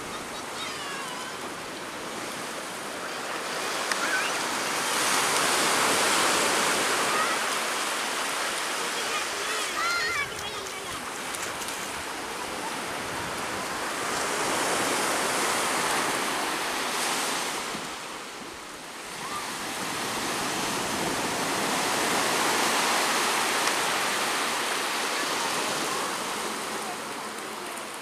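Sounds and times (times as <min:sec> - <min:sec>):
sea waves washing onto beach: 0:00.0 - 0:28.0.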